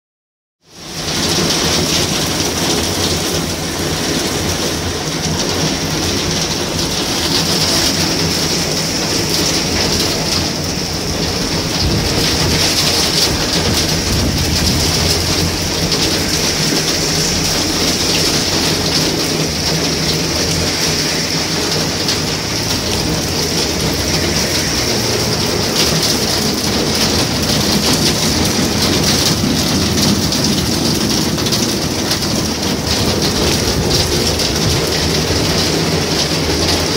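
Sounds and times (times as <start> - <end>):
heavy rain pouring: 0.6 - 36.9
car tyres swishing through water: 0.8 - 36.9.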